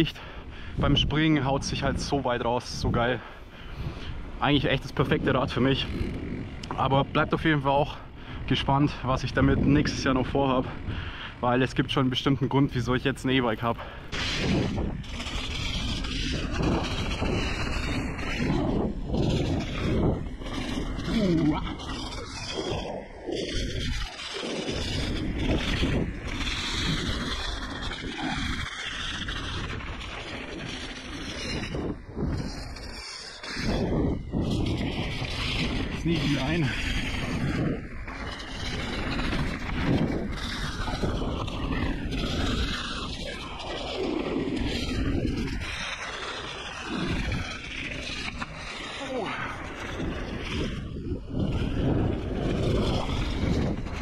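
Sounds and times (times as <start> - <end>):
bike tyre rumble and rattle: 0.0 - 54.0
wind buffeting microphone: 0.0 - 54.0.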